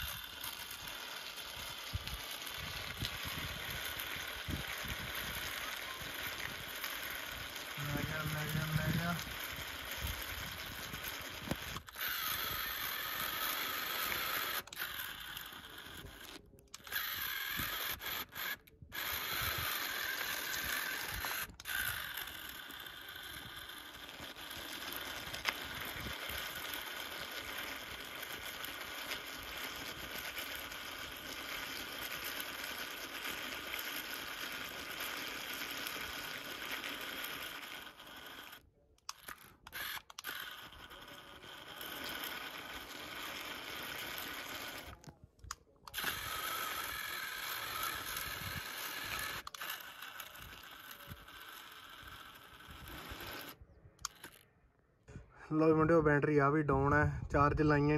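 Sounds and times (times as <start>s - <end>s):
toy motor whirring under strain: 0.0s - 57.9s.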